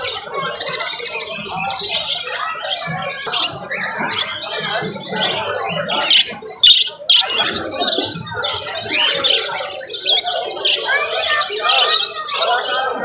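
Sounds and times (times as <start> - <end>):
loud bird squawks: 0.0 - 12.7
budgerigars chattering: 0.0 - 12.8.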